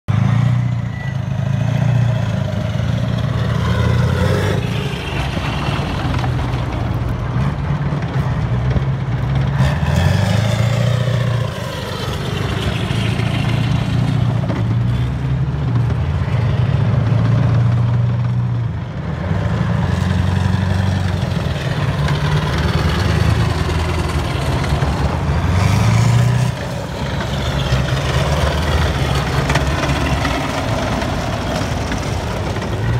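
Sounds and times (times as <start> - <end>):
tracked vehicles driving past: 0.1 - 32.9.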